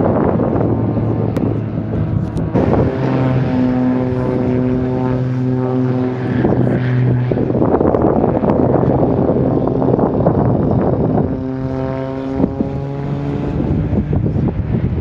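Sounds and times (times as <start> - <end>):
propeller aircraft engine droning: 0.0 - 15.0
wind buffeting microphone: 0.0 - 15.0.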